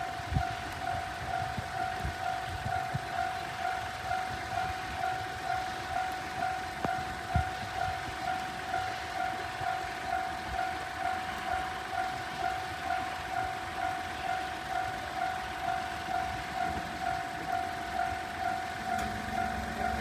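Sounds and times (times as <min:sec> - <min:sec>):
level-crossing alarm bell dinging: 0:00.0 - 0:20.0.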